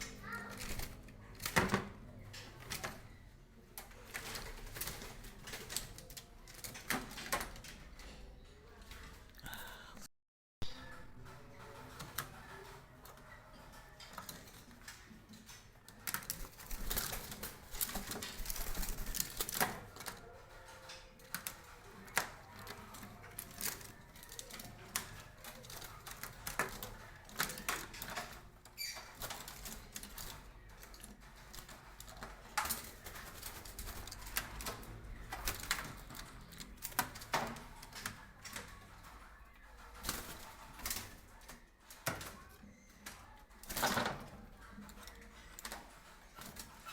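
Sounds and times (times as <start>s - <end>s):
birds clattering against cage bars: 0.0s - 9.3s, 10.8s - 46.9s.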